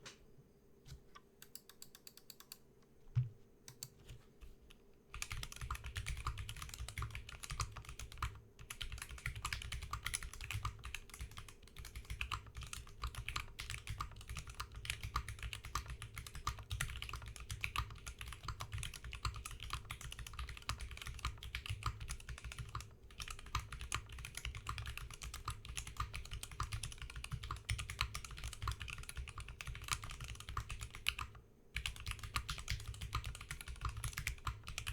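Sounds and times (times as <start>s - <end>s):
mechanical keyboard typing: 5.2s - 34.9s.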